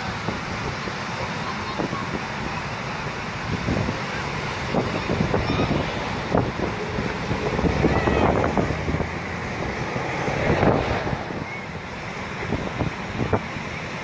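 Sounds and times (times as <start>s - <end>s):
surf breaking: 0.0s - 14.0s
wind buffeting microphone: 0.0s - 14.0s.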